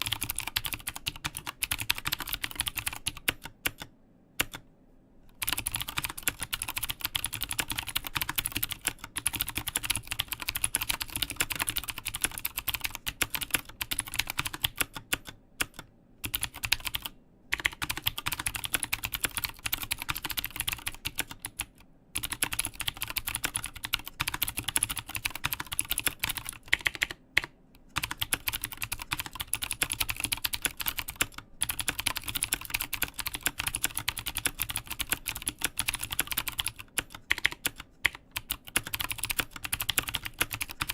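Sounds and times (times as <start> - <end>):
fast typing on mechanical keyboard: 0.0 - 4.6, 5.4 - 40.9.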